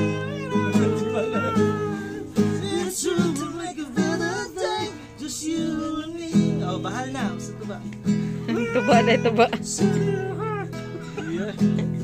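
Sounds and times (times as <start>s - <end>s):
acoustic guitar strumming: 0.0s - 12.0s
person singing: 0.0s - 12.0s.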